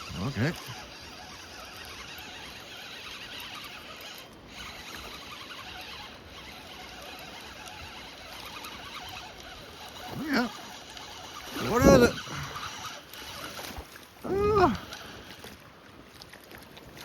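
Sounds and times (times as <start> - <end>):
fishing reel whirring: 0.0 - 15.7.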